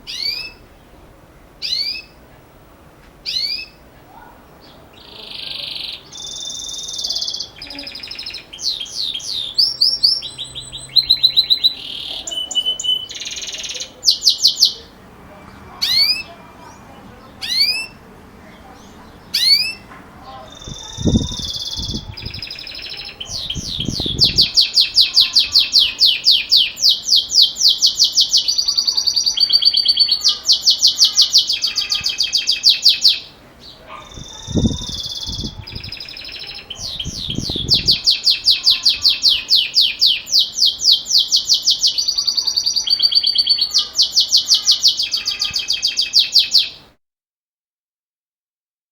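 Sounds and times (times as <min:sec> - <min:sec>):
canary singing trills: 0:00.0 - 0:02.3, 0:03.2 - 0:46.9.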